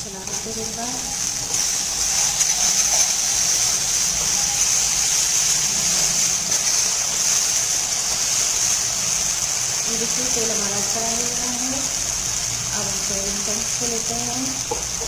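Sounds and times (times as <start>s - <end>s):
masala sizzling in hot oil: 0.0s - 15.0s.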